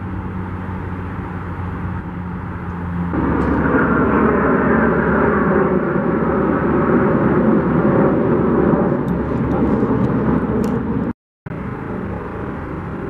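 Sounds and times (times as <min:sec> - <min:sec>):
jet engines flying overhead: 0:00.0 - 0:13.0.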